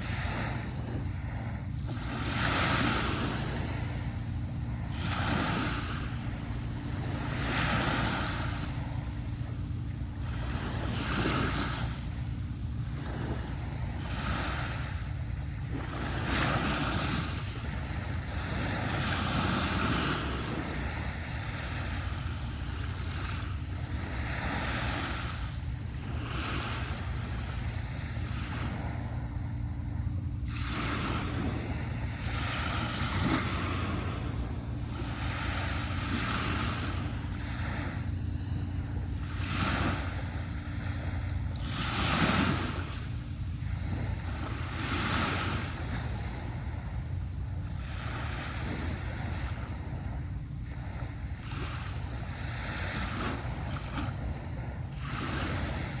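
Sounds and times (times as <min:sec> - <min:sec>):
low rumble of surf: 0:00.0 - 0:56.0
small waves washing up a beach: 0:00.0 - 0:56.0.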